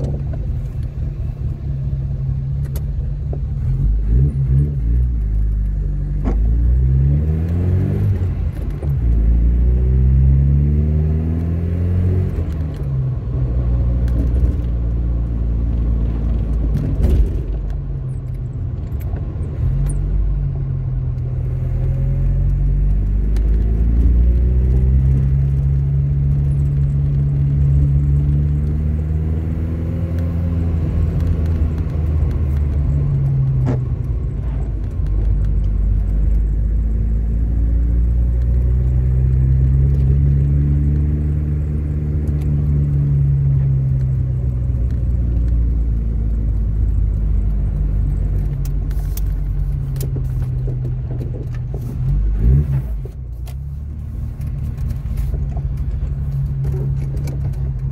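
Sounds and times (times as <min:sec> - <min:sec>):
car engine revving: 0:03.5 - 0:17.4, 0:20.2 - 0:57.9.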